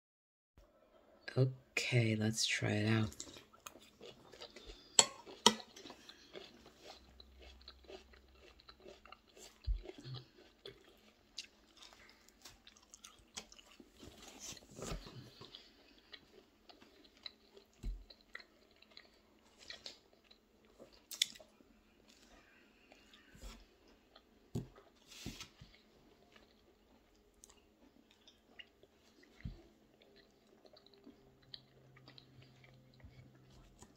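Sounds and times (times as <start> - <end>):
person chewing and biting food: 3.1 - 33.9.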